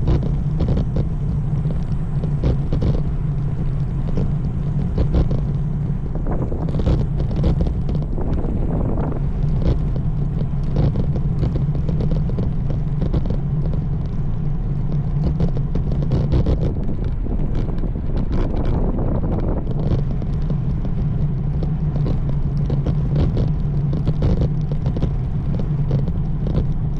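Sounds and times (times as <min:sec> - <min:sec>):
short crackles and taps: 0:00.0 - 0:26.9
steady low rumble: 0:00.0 - 0:26.9
wind buffeting microphone: 0:00.0 - 0:26.9.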